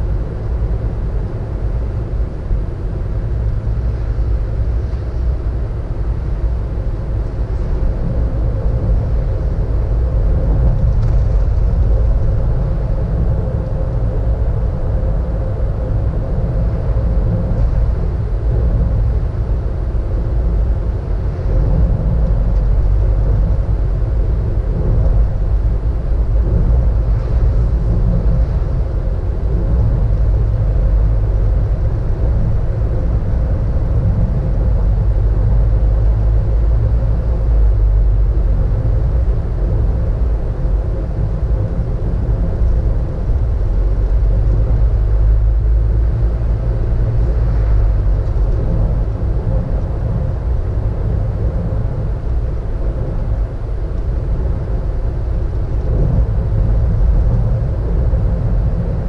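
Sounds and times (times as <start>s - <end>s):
car engine rumble: 0.0s - 59.0s
faint steady hum: 0.0s - 59.0s
tyre road noise: 0.0s - 59.0s.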